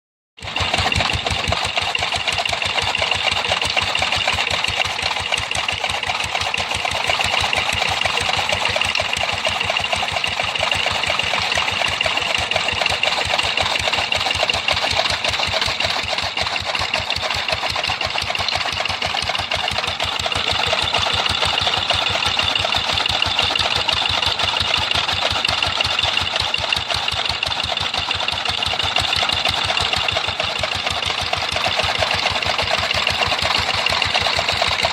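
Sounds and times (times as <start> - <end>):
engine running steadily: 0.4 - 34.9.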